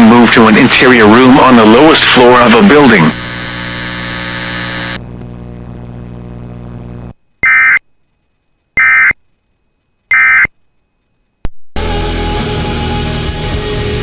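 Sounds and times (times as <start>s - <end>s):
steady buzzing hum: 0.0s - 11.6s.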